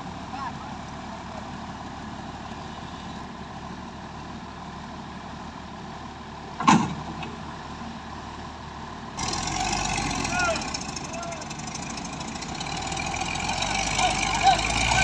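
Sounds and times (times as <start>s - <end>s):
heavy diesel engines idling: 0.0s - 15.0s.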